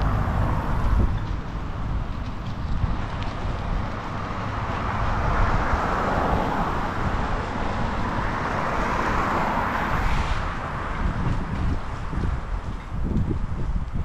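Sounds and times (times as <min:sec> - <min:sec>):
road and tyre noise: 0:00.0 - 0:14.0
wind on microphone: 0:00.0 - 0:14.0.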